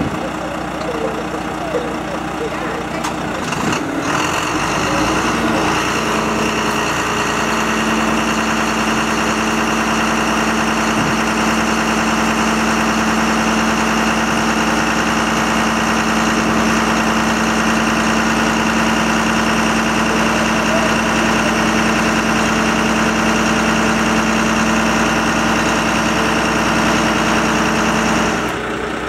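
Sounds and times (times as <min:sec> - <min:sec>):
diesel truck engine humming: 0:00.0 - 0:29.0.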